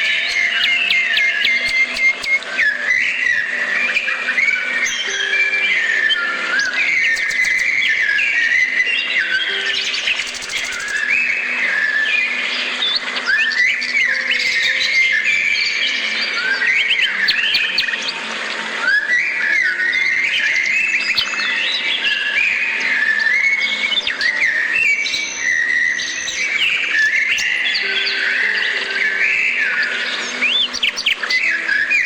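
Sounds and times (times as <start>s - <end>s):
songbirds chirping and whistling: 0.0s - 32.0s.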